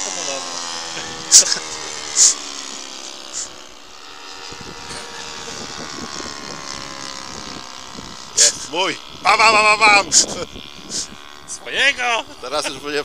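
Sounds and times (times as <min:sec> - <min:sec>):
model airplane motors droning: 0:00.0 - 0:13.0.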